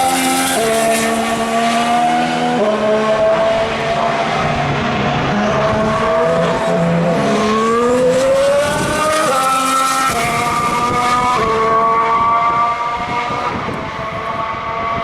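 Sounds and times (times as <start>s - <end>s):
racing car accelerating through gears: 0.0s - 15.0s.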